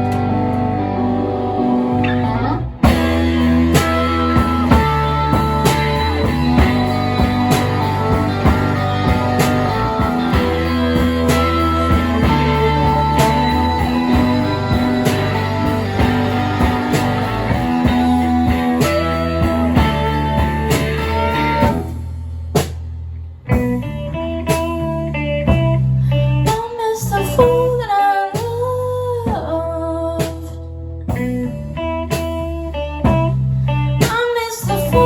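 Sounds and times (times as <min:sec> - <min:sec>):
rock band playing: 0:00.0 - 0:27.7, 0:31.1 - 0:35.0.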